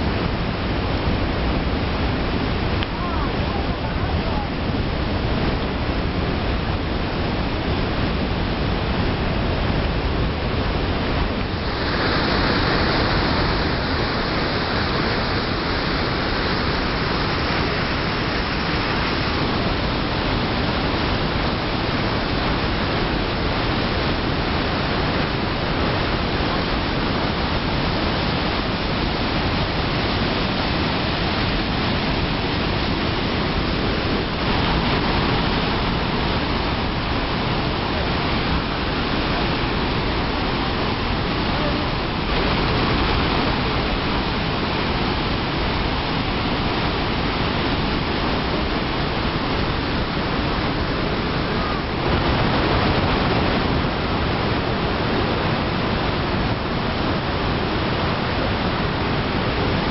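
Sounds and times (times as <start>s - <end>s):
waterfall rushing over rock: 0.0s - 59.9s.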